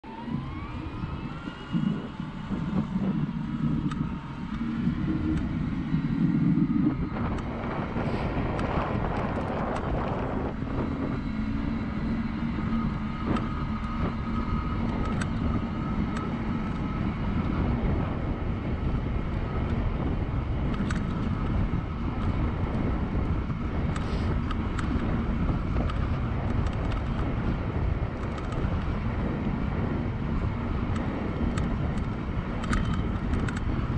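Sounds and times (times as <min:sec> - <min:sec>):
electric motor whining: 0:00.0 - 0:33.9
tyre and wind noise: 0:00.0 - 0:33.9.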